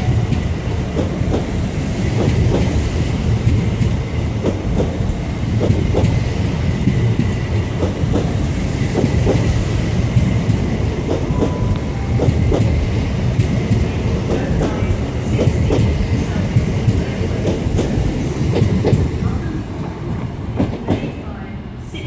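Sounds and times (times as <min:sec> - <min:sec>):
train coaches rumbling past: 0:00.0 - 0:22.0.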